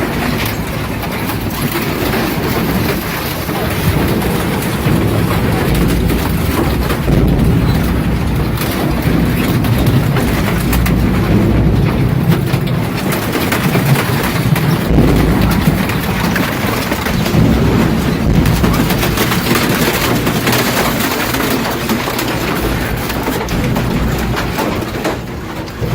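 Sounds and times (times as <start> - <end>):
cracking and clatter: 0.0 - 25.9
shredder machinery rumbling: 0.0 - 25.9.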